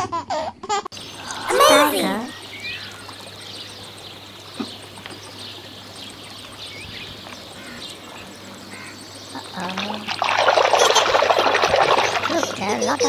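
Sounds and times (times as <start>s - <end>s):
birds chirping: 0.9s - 13.0s.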